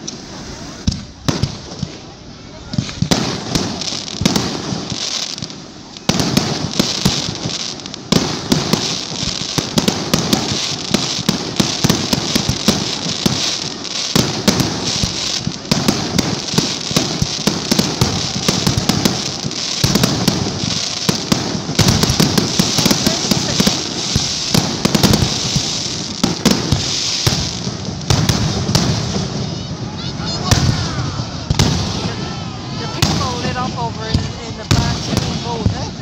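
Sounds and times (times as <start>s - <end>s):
fireworks bangs: 0.0s - 36.0s
fireworks crackling and popping: 0.0s - 36.0s.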